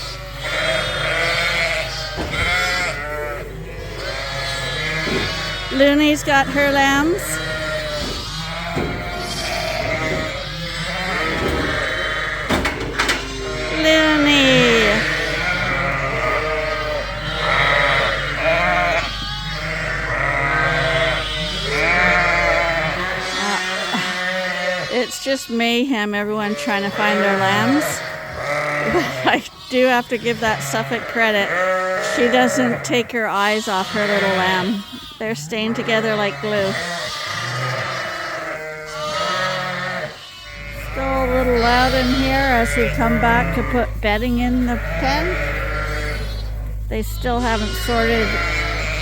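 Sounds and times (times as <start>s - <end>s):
sheep and lambs bleating: 0.0s - 49.0s.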